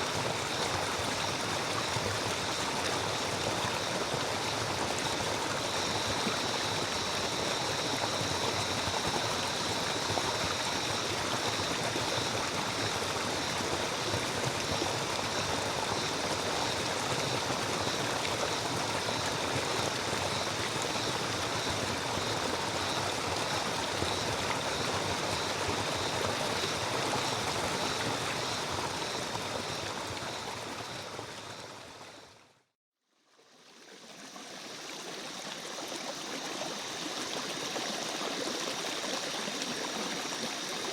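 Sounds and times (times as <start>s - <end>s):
stream water running: 0.0s - 32.6s, 33.2s - 40.9s.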